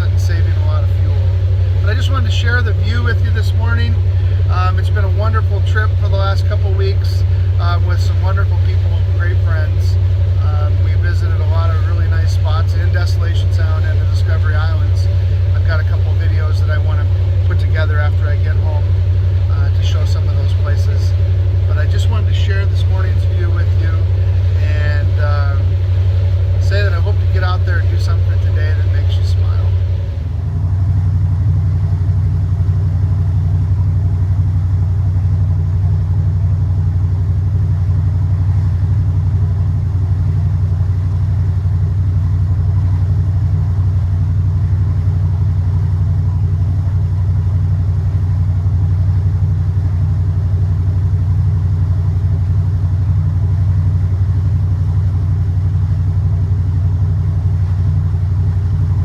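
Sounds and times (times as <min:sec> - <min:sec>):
boat engine low drone: 0:00.0 - 0:59.0.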